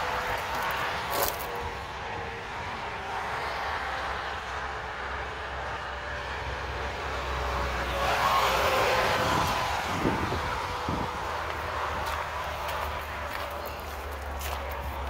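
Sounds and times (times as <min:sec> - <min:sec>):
passing vehicle engine: 0:00.0 - 0:15.0.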